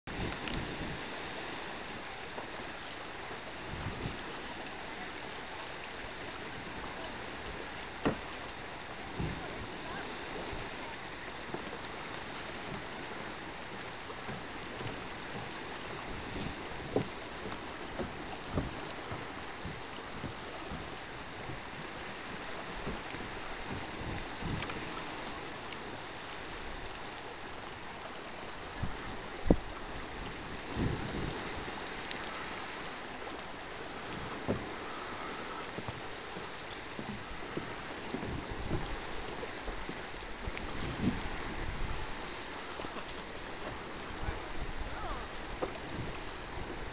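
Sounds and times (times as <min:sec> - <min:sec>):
geyser water rushing and splashing: 0:00.1 - 0:46.9.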